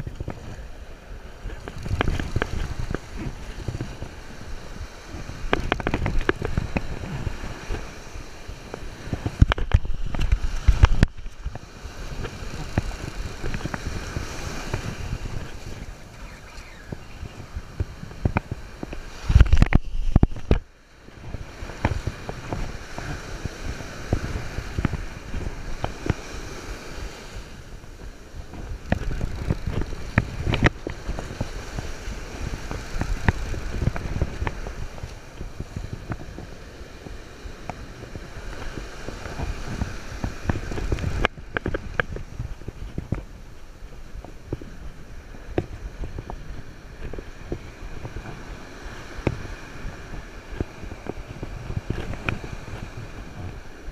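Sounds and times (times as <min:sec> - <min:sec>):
surf washing and breaking: 0:00.0 - 0:53.9
wind buffeting microphone: 0:00.0 - 0:53.9.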